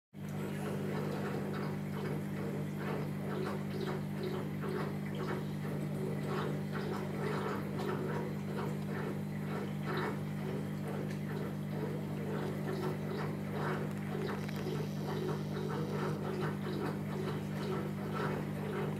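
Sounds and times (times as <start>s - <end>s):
aquarium equipment humming: 0.2s - 18.9s
water bubbling: 0.2s - 18.9s.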